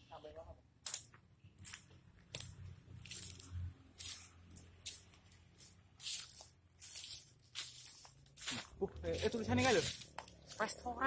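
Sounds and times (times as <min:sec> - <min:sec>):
footsteps on dry grass and leaves: 0:01.6 - 0:11.0.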